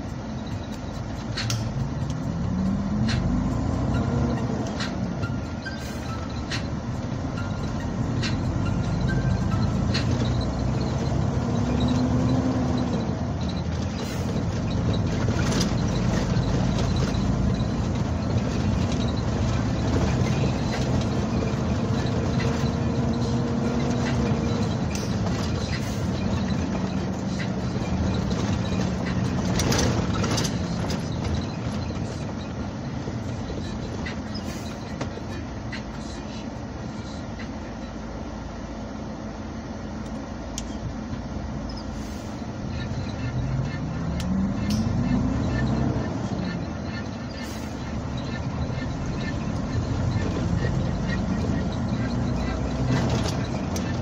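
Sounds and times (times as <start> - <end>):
road noise: 0.0 - 54.0
truck engine running: 0.0 - 54.0.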